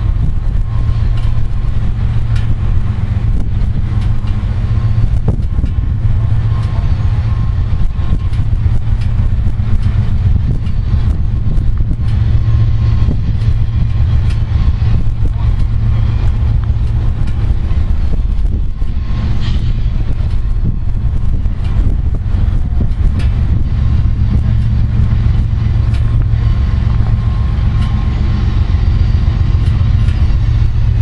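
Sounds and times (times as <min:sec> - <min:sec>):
diesel locomotives rumbling: 0:00.0 - 0:31.0.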